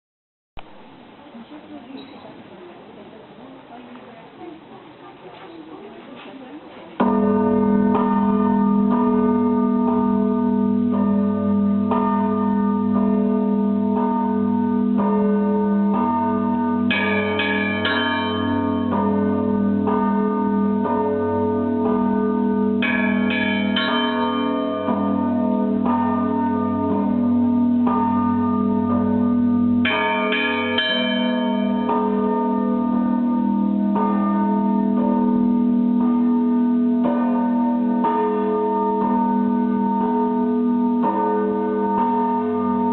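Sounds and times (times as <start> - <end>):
cluster of high bells: 7.0 - 42.9
deep bell hum: 7.0 - 42.9
strikes on smaller bells: 7.0 - 42.9.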